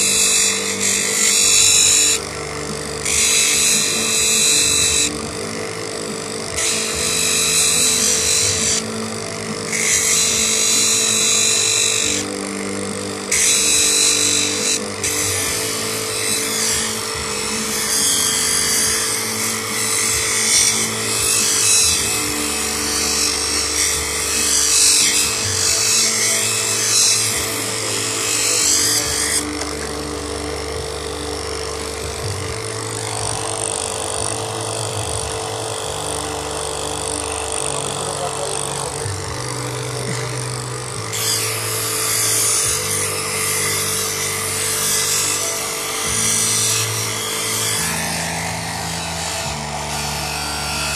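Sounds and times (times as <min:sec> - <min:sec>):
lapidary wheel motor humming: 0:00.0 - 0:50.9
stone grinding hiss: 0:00.0 - 0:50.9.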